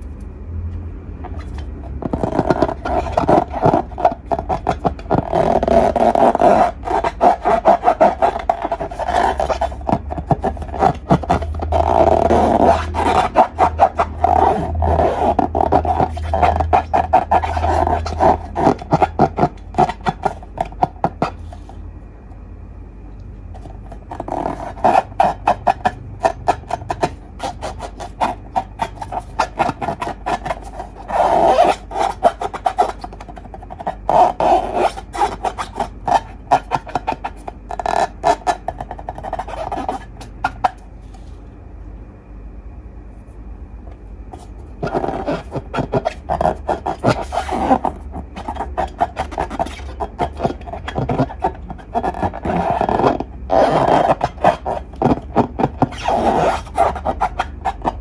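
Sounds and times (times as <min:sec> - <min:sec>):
slime squishing: 0:01.2 - 0:21.7, 0:23.6 - 0:40.9, 0:44.4 - 0:58.0.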